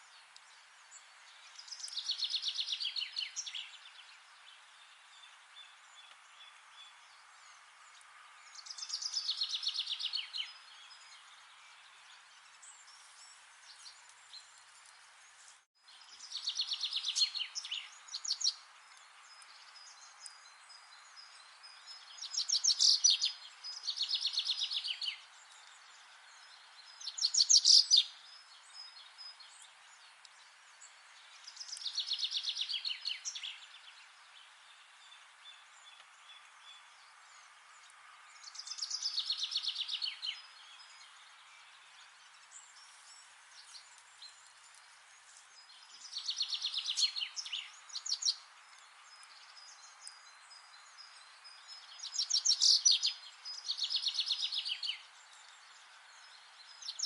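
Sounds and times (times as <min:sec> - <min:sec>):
faint background hiss: 0:00.0 - 0:57.0.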